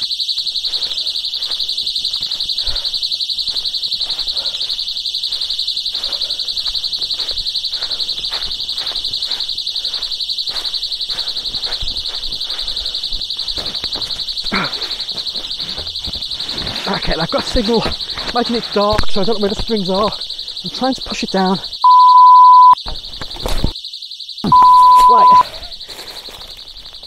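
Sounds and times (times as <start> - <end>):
pulsing electronic siren: 0.0 - 27.0.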